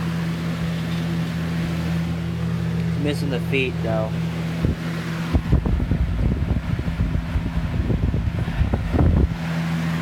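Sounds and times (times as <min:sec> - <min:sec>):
box fan fluttering rumble: 0:00.0 - 0:10.0.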